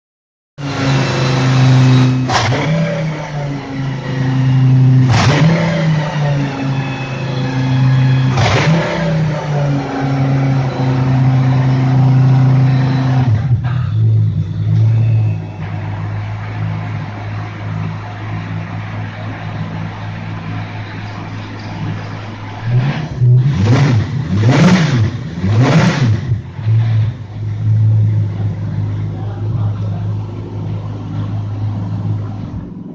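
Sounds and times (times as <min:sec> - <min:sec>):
race car engine idling: 0:00.6 - 0:25.6, 0:26.2 - 0:32.9.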